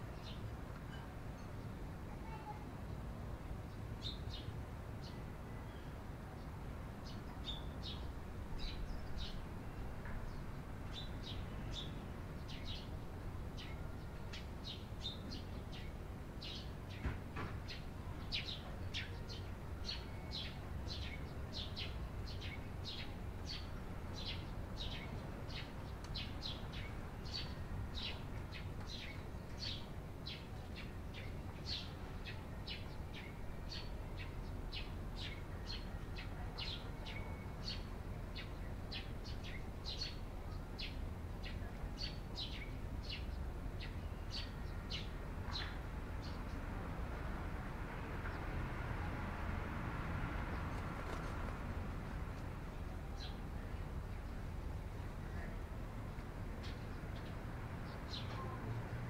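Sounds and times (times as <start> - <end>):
sparrows chirping: 0.1 - 2.6, 3.6 - 47.5, 50.4 - 58.7.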